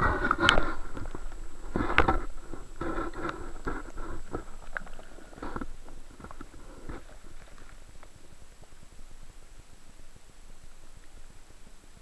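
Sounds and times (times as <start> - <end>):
water gurgling and sloshing: 0.0 - 11.7.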